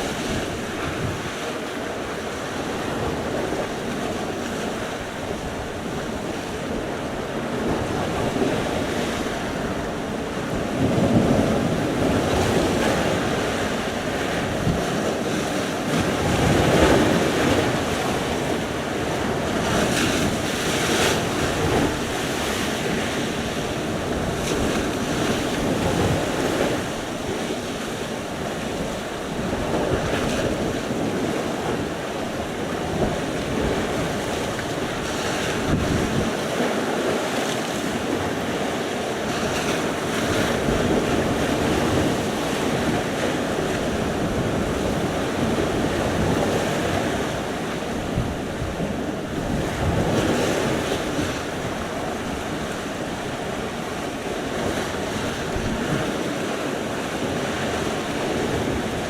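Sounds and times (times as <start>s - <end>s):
waves breaking on shore: 0.0s - 59.0s
wind buffeting microphone: 0.0s - 59.0s.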